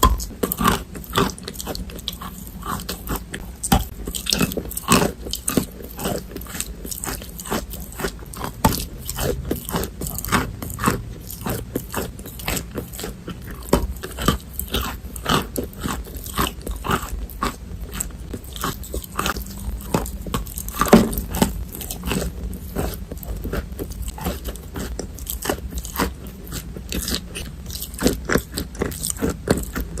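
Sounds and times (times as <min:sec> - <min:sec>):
chalk crunching while chewed: 0:00.0 - 0:30.0.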